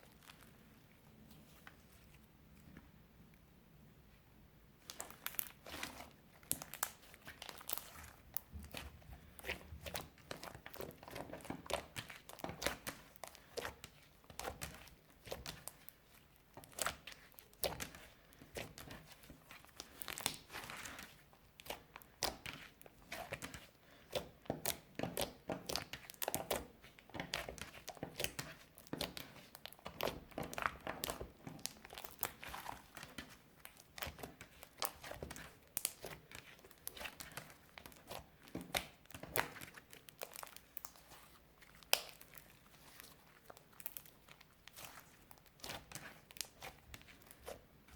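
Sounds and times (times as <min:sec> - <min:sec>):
slime popping and crackling: 0:04.8 - 0:47.7.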